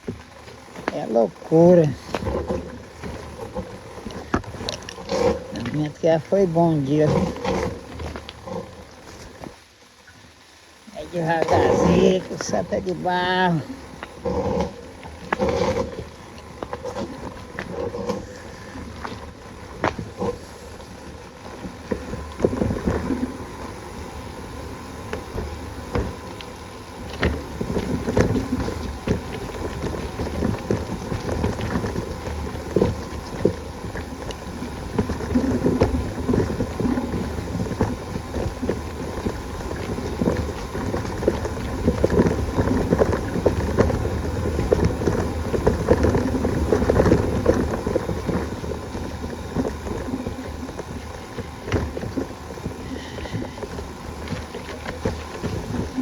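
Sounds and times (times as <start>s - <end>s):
bicycle rattling over stones: 0.0s - 56.0s.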